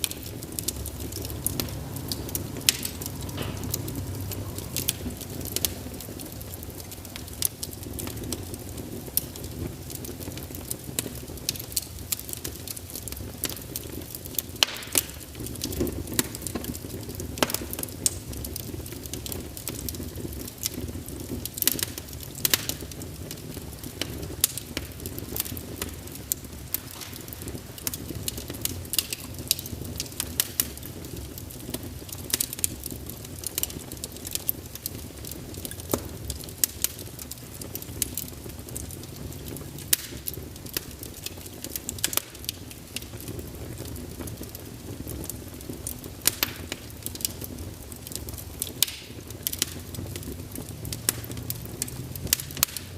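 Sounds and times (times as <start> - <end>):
flames rumbling: 0.0 - 52.9
logs crackling and popping: 0.0 - 52.9.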